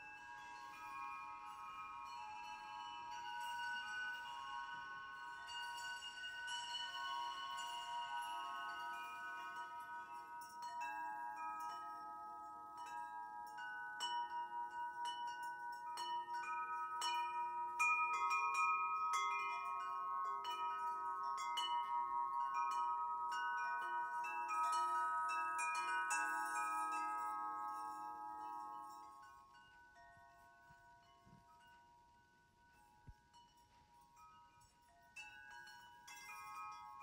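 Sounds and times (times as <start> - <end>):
metal tube wind chime ringing: 0.0 - 37.0.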